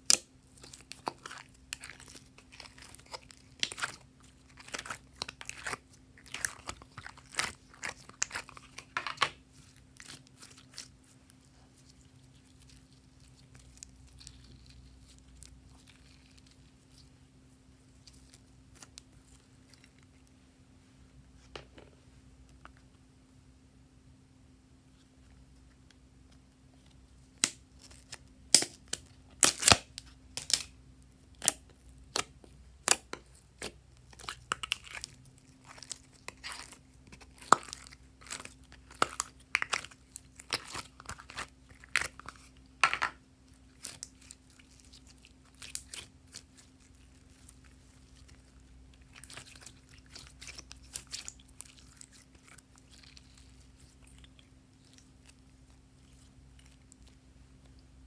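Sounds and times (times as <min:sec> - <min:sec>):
slime clicking and crackling: 0:00.0 - 0:17.0, 0:27.3 - 0:30.7, 0:31.3 - 0:57.7.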